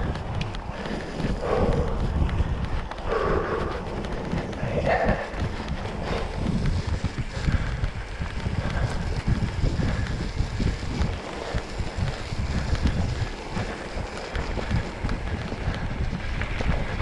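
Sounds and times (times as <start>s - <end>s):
bike tyres rumbling and rattling: 0.0s - 17.0s
wind buffeting microphone: 0.0s - 17.0s.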